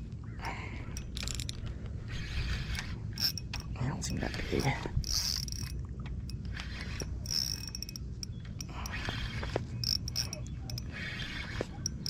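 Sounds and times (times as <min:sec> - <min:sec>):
fishing reel clicking and whirring: 0:01.0 - 0:12.0.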